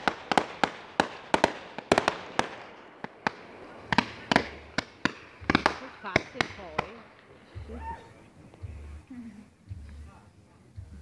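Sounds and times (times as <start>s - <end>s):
fireworks cracking and banging: 0.0s - 9.0s.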